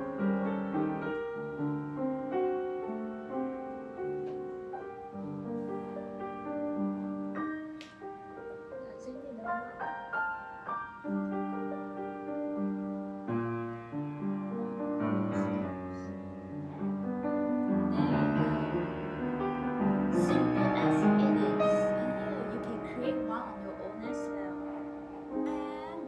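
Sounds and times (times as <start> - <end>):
background piano music: 0.0 - 26.0.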